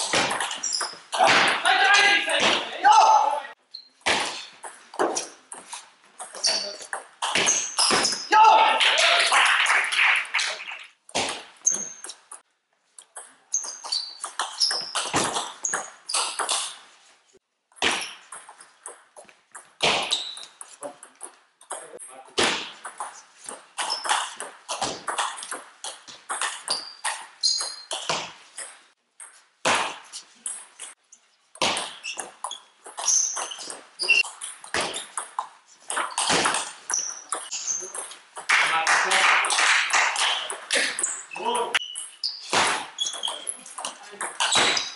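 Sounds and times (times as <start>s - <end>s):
shoes squeaking on floor: 0.0s - 8.3s, 11.6s - 12.4s, 13.0s - 29.4s, 30.0s - 38.5s, 40.2s - 44.9s.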